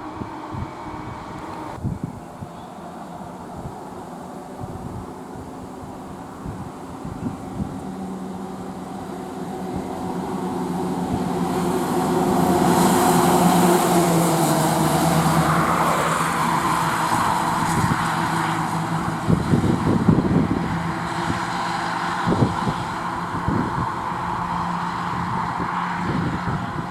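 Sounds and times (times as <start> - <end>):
truck diesel engine passing: 0.0 - 26.9.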